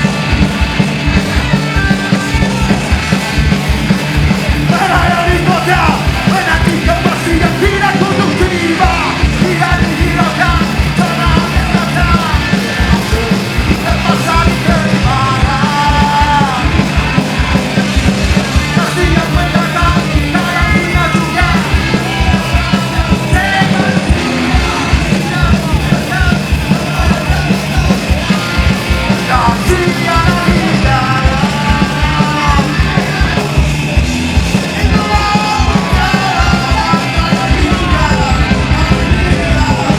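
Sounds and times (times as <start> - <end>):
drums and bass beat: 0.0 - 39.9
punk rock band playing: 0.0 - 39.9
person yelling singing: 1.1 - 39.9.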